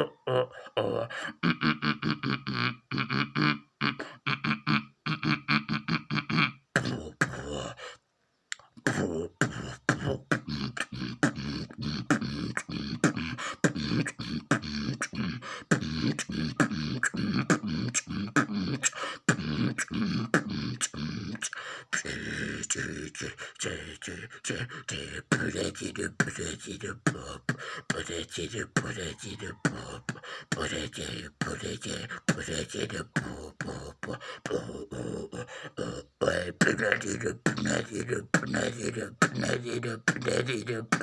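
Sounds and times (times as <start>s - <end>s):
person beatboxing: 0.0s - 41.0s.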